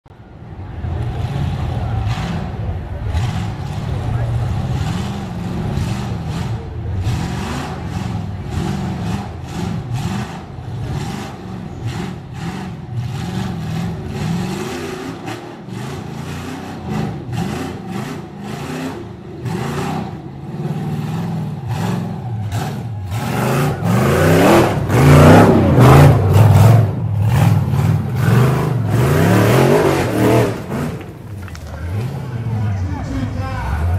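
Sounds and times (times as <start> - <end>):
buggy engine revving: 0.4 - 33.9.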